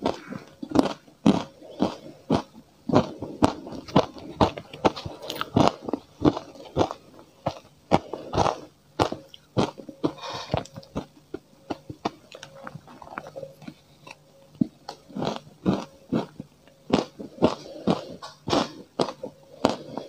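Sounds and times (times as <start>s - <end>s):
crunchy bites and chewing: 0.0s - 20.0s.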